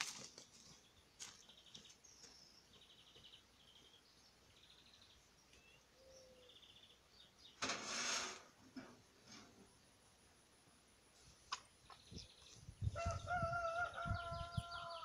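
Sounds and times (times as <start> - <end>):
songbirds singing: 0.1 - 7.7, 9.6 - 15.0.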